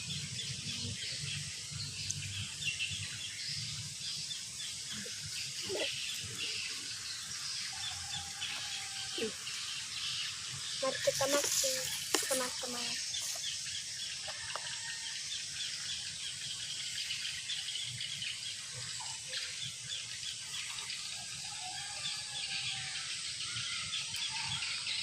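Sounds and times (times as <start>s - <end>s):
birds chirping: 0.0s - 25.0s
steady high-pitched hiss: 0.0s - 25.0s.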